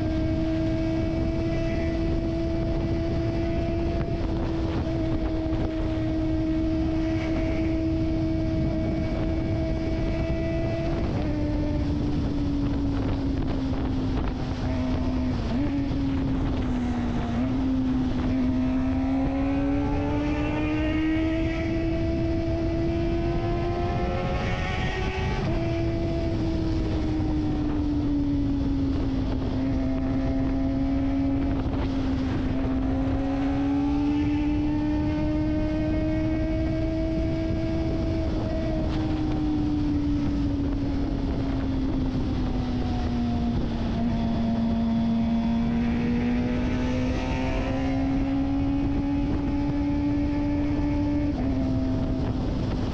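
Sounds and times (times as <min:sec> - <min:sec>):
motorcycle engine revving: 0:00.0 - 0:52.9
wind buffeting on microphone: 0:00.0 - 0:52.9.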